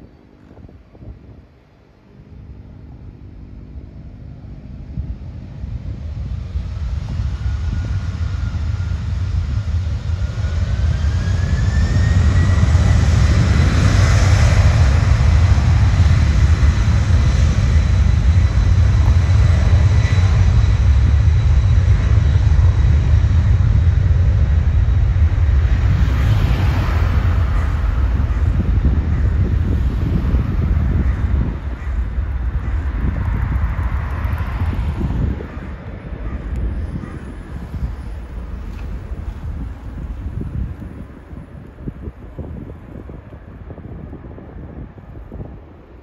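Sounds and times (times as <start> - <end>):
jet engines spooling up: 5.2 - 43.1.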